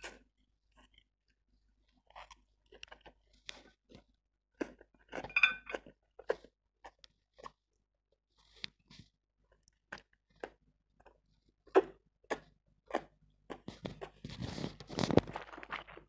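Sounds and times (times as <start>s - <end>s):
slurping and chewing noodles: 0.0s - 1.1s, 1.7s - 7.8s, 8.4s - 16.0s.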